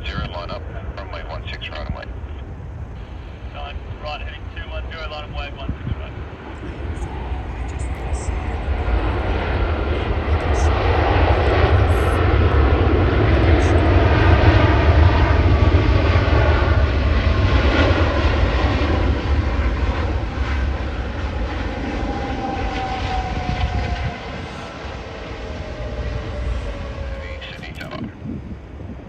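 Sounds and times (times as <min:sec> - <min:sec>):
jet airliner engines passing: 0:00.0 - 0:29.0.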